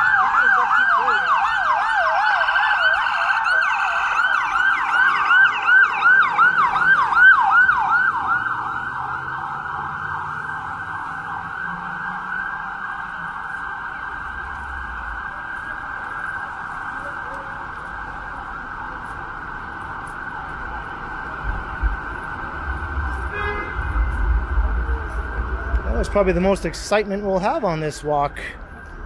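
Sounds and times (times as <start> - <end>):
ambulance siren yelping: 0.0 - 26.6.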